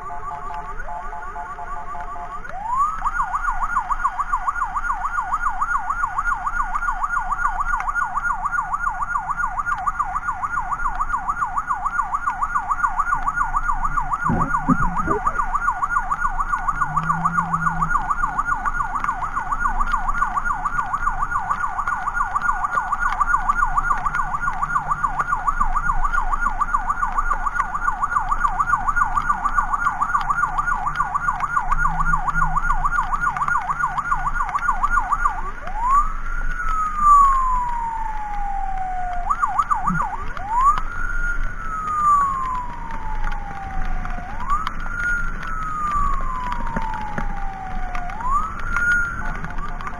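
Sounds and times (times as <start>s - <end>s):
ambulance siren yelp and wail: 0.0s - 49.9s.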